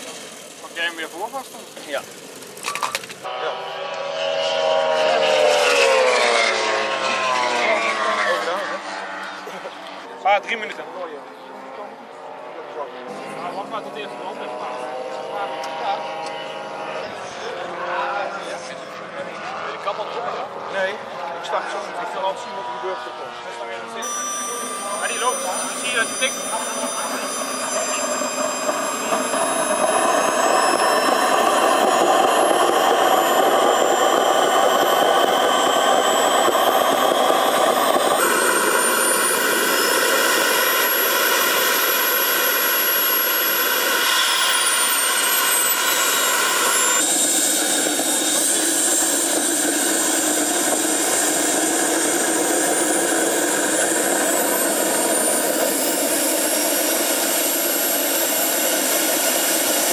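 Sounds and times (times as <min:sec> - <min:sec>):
model jet turbines running: 0:00.0 - 0:59.9.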